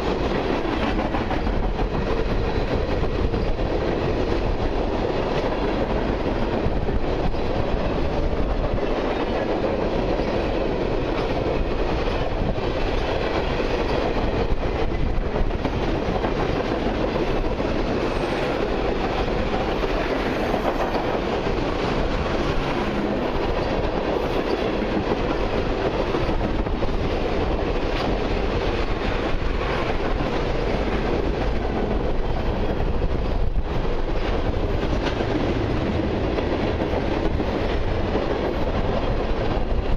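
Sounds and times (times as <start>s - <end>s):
freight train rolling past: 0.0s - 39.9s
wheels clacking over rail joints: 0.0s - 39.9s.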